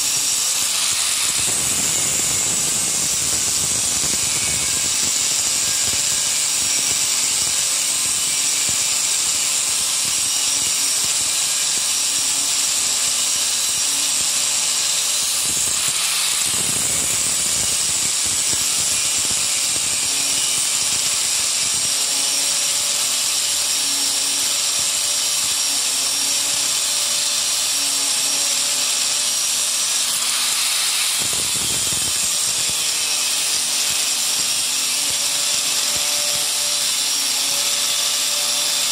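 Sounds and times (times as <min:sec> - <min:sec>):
angle grinder cutting steel: 0:00.0 - 0:38.9.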